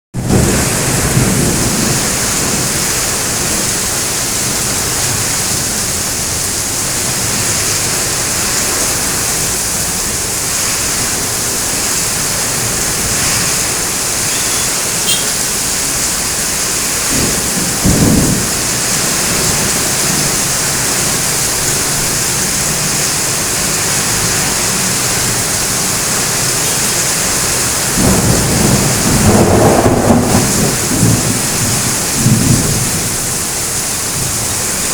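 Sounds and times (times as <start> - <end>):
heavy rain pouring: 0.2 - 34.9
thunder rumbling: 0.2 - 34.9.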